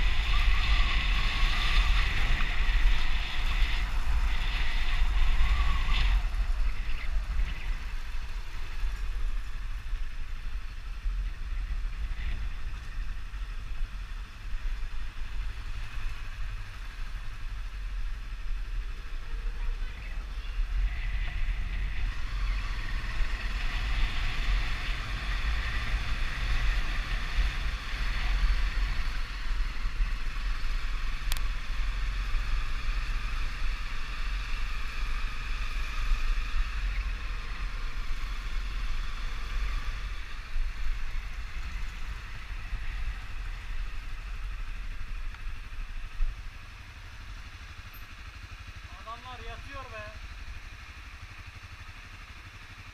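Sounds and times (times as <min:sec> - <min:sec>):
motorcycle engine and road noise: 0:00.0 - 0:52.9.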